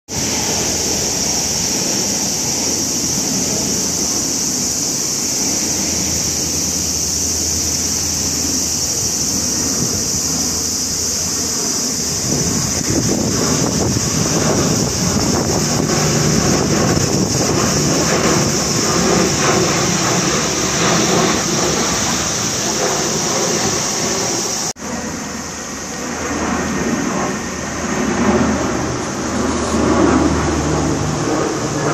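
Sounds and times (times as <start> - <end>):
high-pitched hiss: 0.1 - 31.9
turboprop aircraft drone overhead: 0.1 - 31.9.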